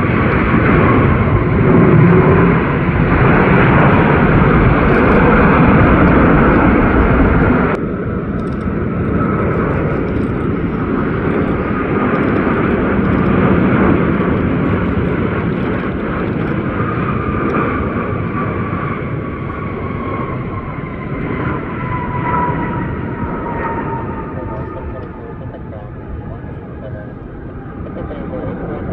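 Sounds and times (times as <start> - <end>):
jet airliner passing: 0.0 - 28.9.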